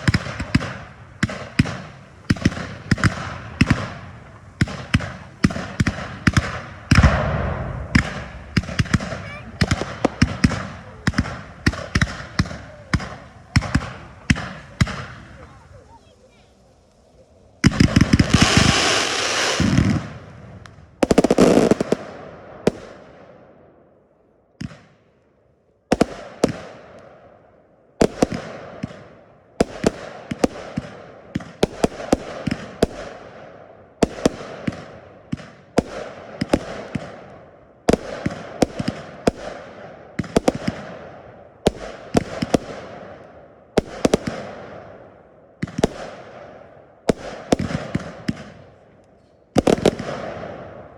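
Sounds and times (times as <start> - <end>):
fireworks sharp bangs: 0.0 - 16.9, 17.6 - 23.8, 24.6 - 25.1, 25.9 - 50.9
fireworks bursting: 0.0 - 23.6, 25.9 - 27.4, 28.0 - 50.9.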